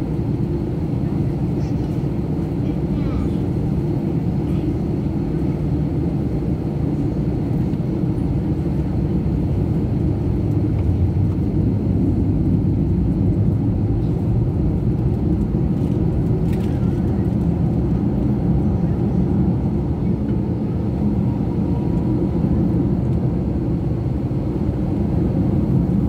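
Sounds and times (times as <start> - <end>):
airliner cabin low rumble: 0.0 - 26.0.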